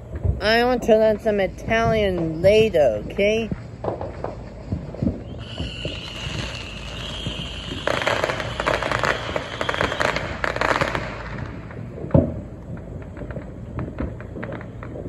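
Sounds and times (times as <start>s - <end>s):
fireworks crackling pops: 0.0s - 15.0s
loud firework bang: 2.5s - 15.0s.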